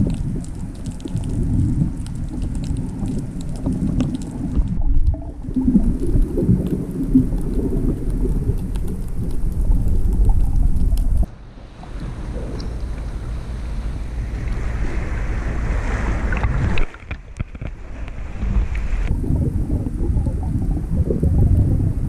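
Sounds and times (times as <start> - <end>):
dull underwater rumble: 0.0 - 22.0
sea water sloshing: 0.0 - 22.0.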